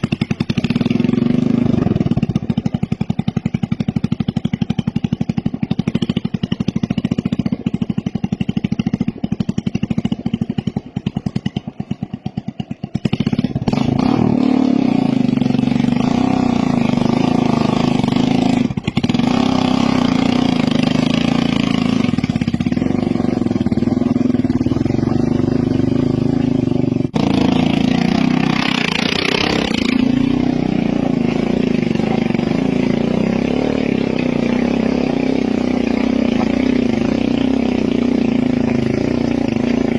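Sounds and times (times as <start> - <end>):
motorcycle engines working hard: 0.0 - 39.9.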